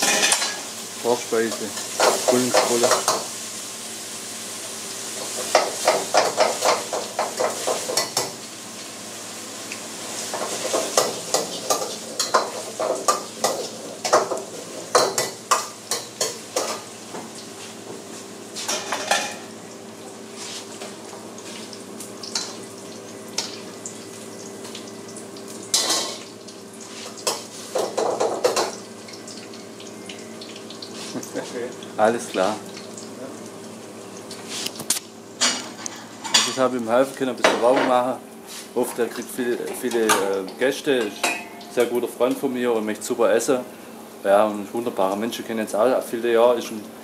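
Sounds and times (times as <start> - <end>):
food sizzling: 0.0 - 37.4, 38.0 - 46.1.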